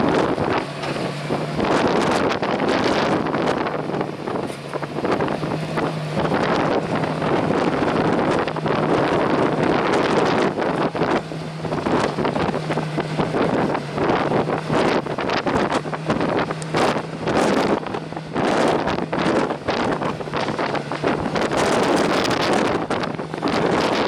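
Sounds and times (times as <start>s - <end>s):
gusty wind buffeting microphone: 0.0s - 24.0s.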